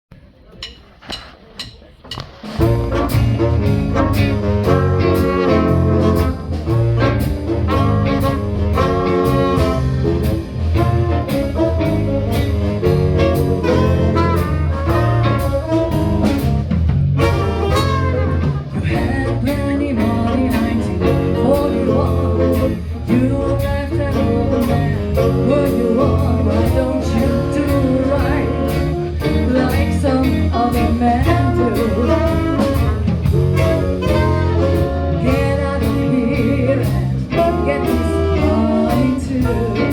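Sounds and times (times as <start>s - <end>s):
live band playing jazzy blues: 2.2s - 39.9s.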